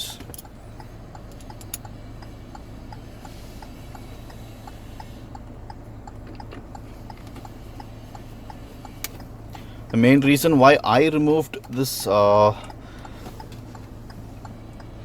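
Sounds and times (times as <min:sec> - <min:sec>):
faint even ticking: 0:00.0 - 0:15.0
low steady hum: 0:00.0 - 0:15.0.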